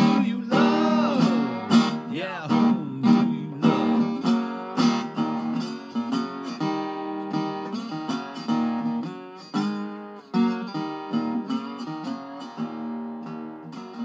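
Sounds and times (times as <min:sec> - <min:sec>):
resonator guitar strumming chords: 0:00.0 - 0:14.0.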